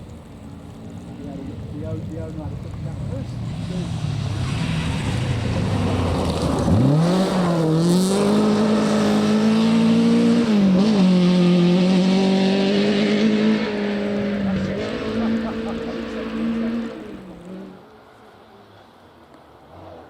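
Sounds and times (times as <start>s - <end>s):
rally car engine accelerating: 0.9s - 17.9s.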